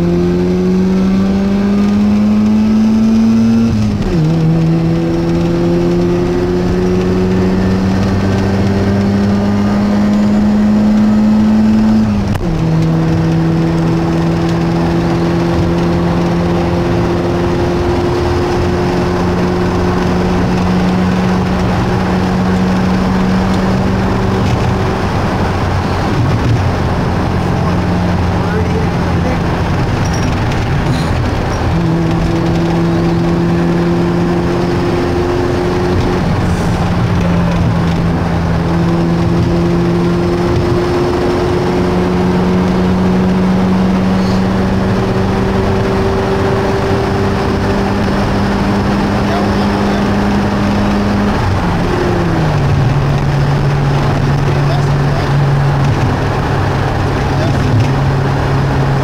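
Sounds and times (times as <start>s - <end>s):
rotary engine accelerating through gears: 0.0s - 59.0s.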